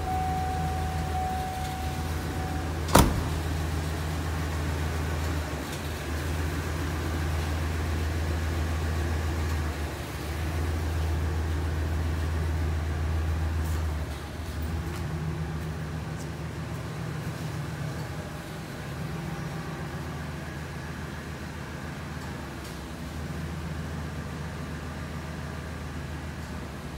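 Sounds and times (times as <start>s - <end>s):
van engine idling: 0.0s - 26.9s.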